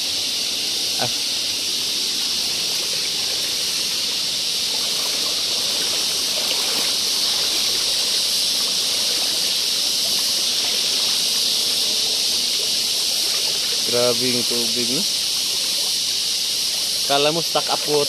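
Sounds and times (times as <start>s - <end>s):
high-pitched outdoor hiss: 0.0s - 18.0s.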